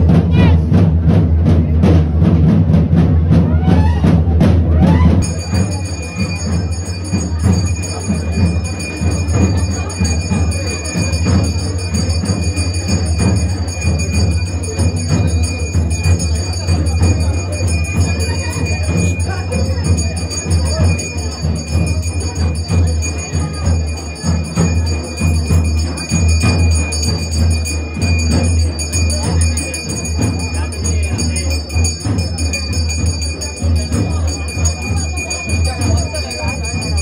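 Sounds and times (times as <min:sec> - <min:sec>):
drums beating a steady rhythm: 0:00.0 - 0:37.0
high bell-like ringing: 0:05.2 - 0:37.0.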